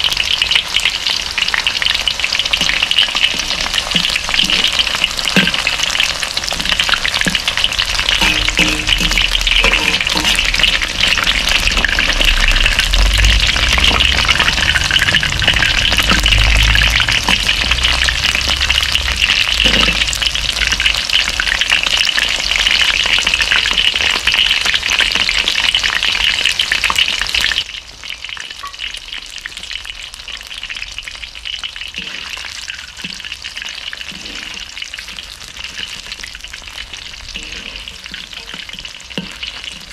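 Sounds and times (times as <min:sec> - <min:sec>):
tempura deep-frying in oil: 0:00.0 - 0:39.9.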